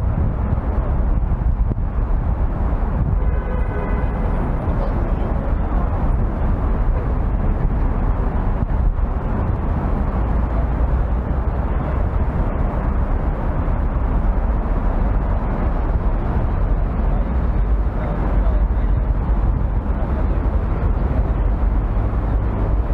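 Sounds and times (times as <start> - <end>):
traffic rumble: 0.0 - 22.9.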